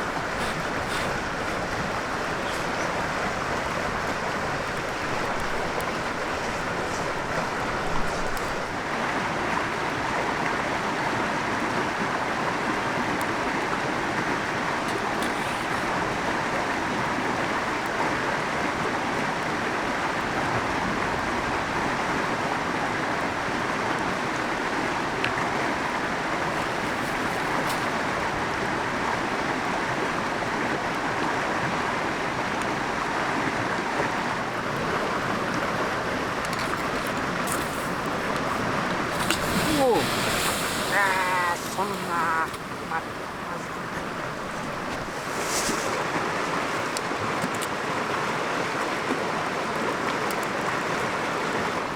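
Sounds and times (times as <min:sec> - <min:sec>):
river water rushing over stones: 0:00.0 - 0:51.9.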